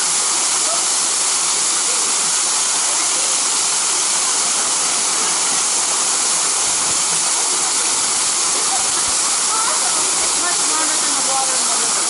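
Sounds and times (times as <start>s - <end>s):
fast-moving water rushing: 0.0s - 12.0s.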